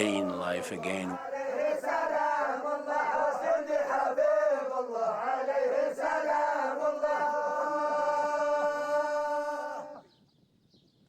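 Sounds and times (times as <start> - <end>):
group of voices chanting: 0.0 - 10.1.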